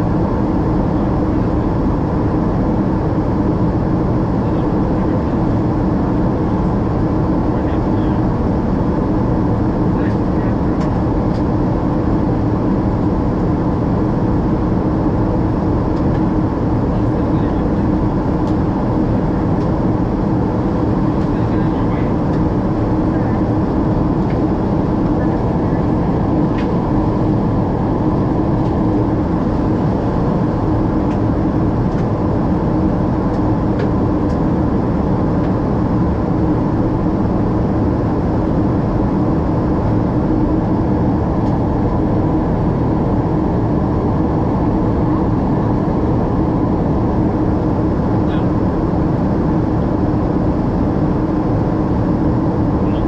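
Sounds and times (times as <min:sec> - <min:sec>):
aircraft cabin engine and airflow noise: 0:00.0 - 0:53.0
steady low hum: 0:00.0 - 0:53.0.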